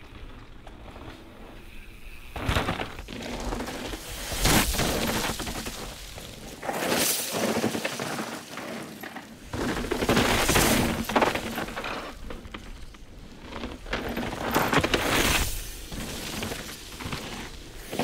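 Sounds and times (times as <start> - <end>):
bike tyres skidding on gravel: 0.0 - 18.0.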